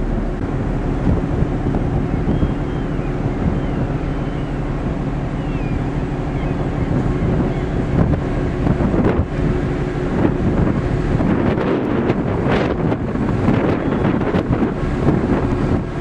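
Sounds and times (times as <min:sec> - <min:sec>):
ship engines humming: 0:00.0 - 0:16.0
wind buffeting microphone: 0:00.0 - 0:16.0.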